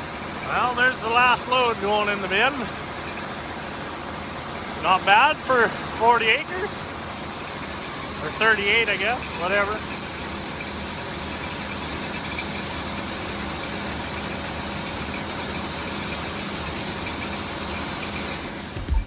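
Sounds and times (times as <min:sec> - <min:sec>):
farm machinery engine running: 0:00.0 - 0:19.0.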